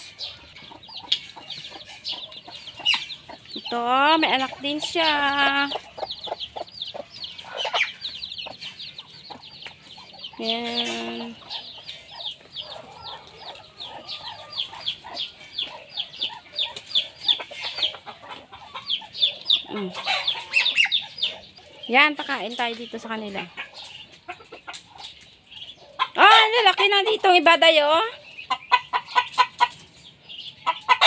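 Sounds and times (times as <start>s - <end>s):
chicks peeping: 0.0s - 31.0s
hens clucking: 0.0s - 31.0s.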